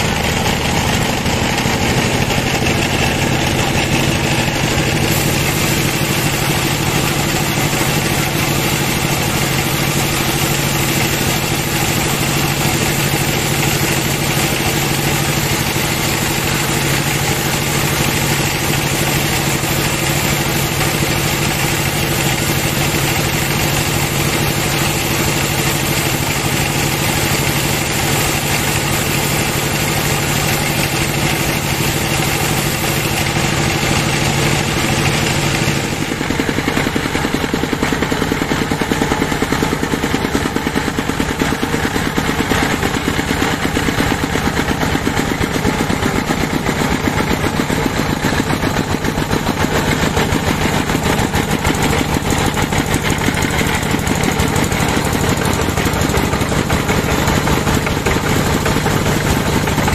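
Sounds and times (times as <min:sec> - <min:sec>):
band saw ripping through log: 0:00.0 - 0:38.2, 0:39.2 - 0:59.9.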